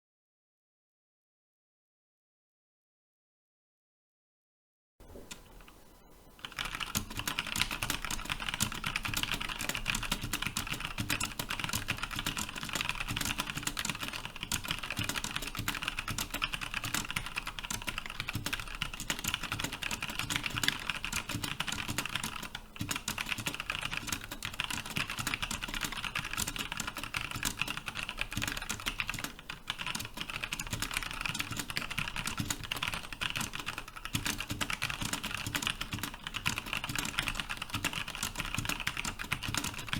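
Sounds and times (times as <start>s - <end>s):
typing on mechanical keyboard: 6.4s - 39.9s.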